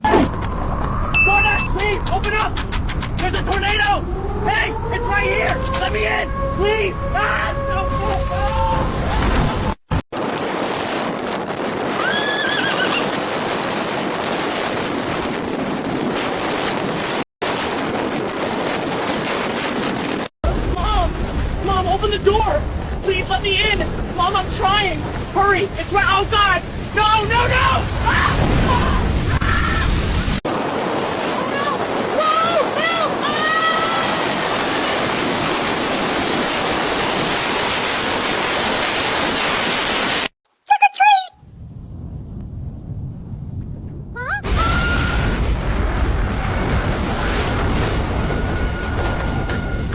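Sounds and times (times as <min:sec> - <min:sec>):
roaring tornado wind: 0:00.0 - 0:40.3, 0:41.4 - 0:49.9.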